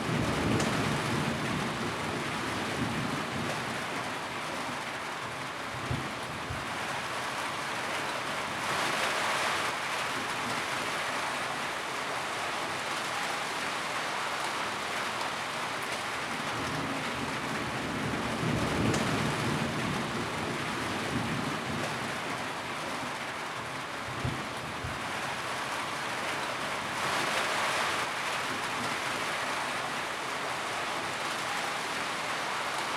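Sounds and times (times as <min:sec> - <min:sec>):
rain on a tin roof: 0:00.0 - 0:32.9.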